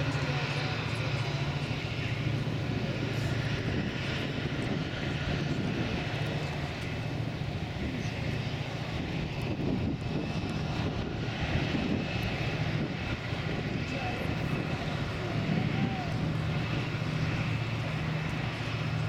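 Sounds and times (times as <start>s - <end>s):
boat diesel engines droning: 0.0s - 19.0s.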